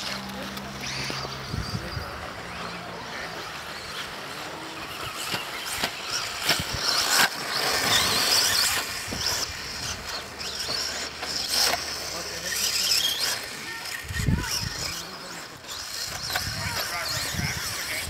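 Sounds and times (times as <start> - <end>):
toy car motor whine: 0.0 - 18.0.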